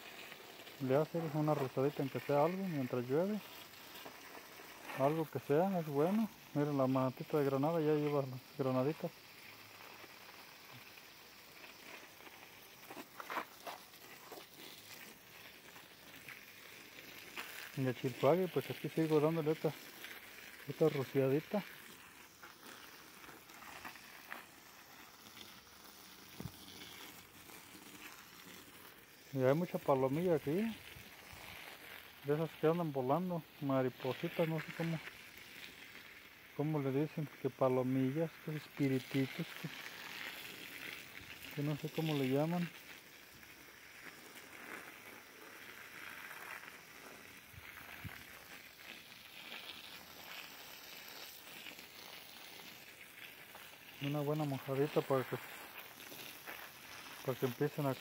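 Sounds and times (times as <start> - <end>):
hose spray hissing: 0.0 - 58.0.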